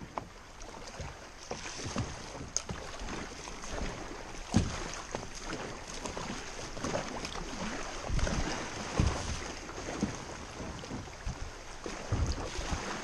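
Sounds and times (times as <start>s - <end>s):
low thumps on kayak: 0.0s - 13.0s
paddle strokes splashing: 0.0s - 13.0s
river water rushing: 0.0s - 13.0s.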